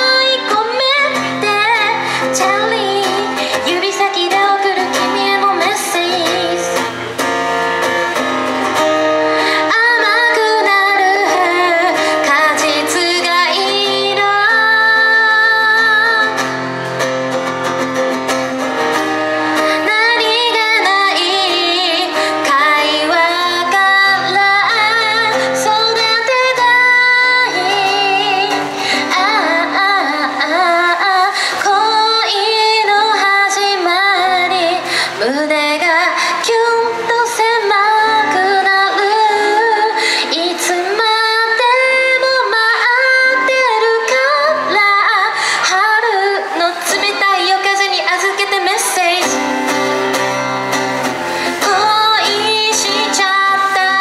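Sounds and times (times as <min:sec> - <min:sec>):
strummed acoustic guitar: 0:00.0 - 0:54.0
woman singing pop song: 0:00.0 - 0:54.0.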